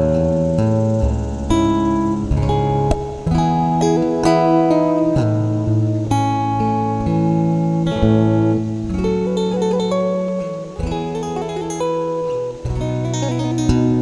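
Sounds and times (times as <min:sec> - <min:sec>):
guitar playing held chords: 0:00.0 - 0:14.0.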